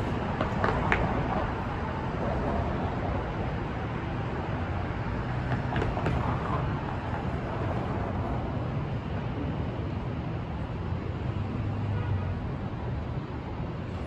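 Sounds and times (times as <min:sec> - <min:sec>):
cars passing: 0:00.0 - 0:14.0.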